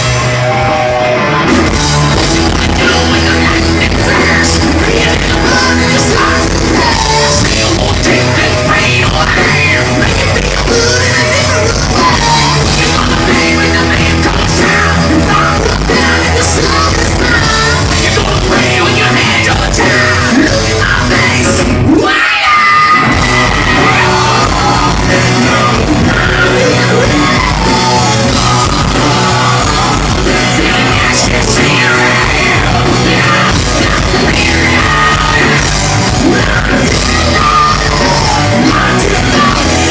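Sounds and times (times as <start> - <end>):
loud rock band playing: 0.0 - 39.9
singer yelling and singing: 0.0 - 39.9.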